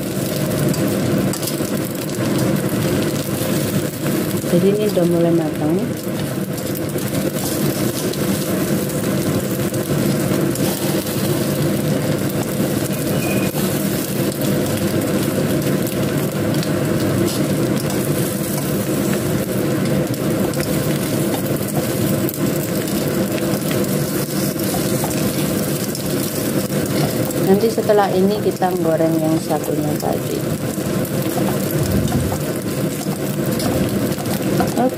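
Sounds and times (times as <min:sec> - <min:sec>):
food sizzling in a frying pan: 0:00.0 - 0:34.9
low mechanical hum: 0:00.0 - 0:34.9.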